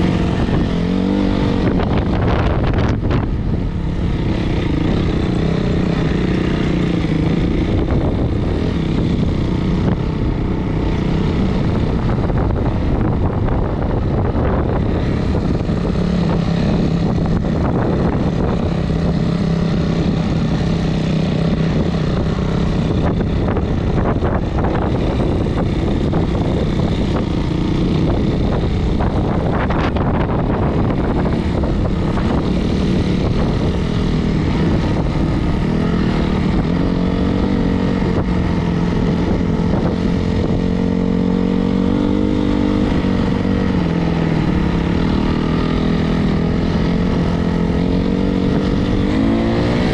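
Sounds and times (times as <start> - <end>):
dirt bike engine running: 0.0 - 49.9.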